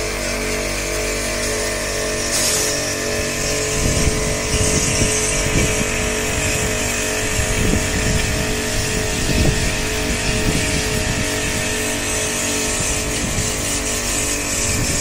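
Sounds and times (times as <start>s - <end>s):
wind on microphone: 2.2s - 15.0s.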